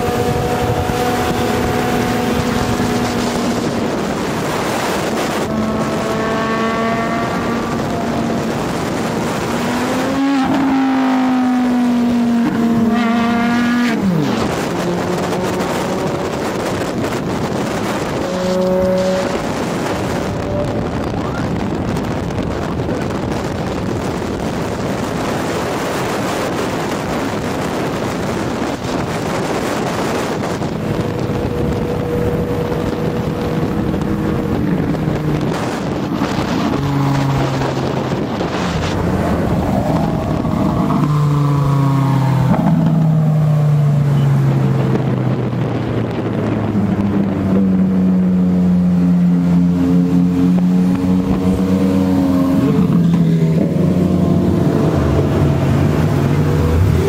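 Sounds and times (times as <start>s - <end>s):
car engines changing gear: 0.0s - 57.0s
wind and road noise: 0.0s - 57.0s.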